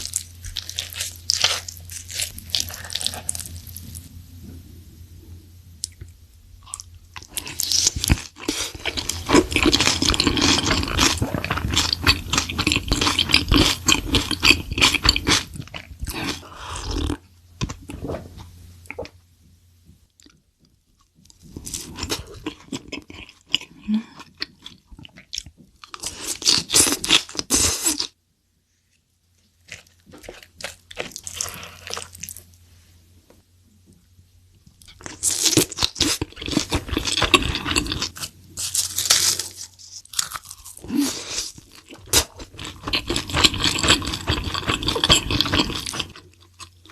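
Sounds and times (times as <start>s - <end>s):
crunchy chewing of food: 0.0s - 4.1s, 5.8s - 19.1s, 21.0s - 28.2s, 29.3s - 32.6s, 34.6s - 46.9s.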